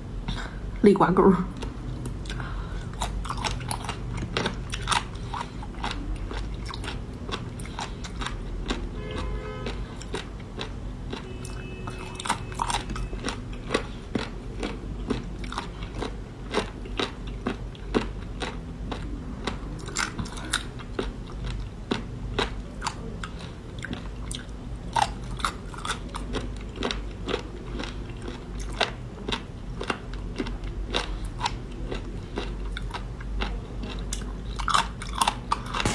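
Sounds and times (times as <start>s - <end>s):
person chewing seafood: 1.5s - 35.9s.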